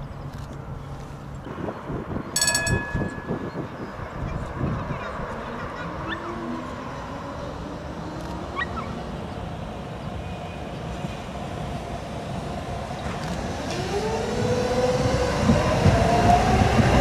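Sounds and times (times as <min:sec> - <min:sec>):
outdoor street rumble: 0:00.0 - 0:17.0.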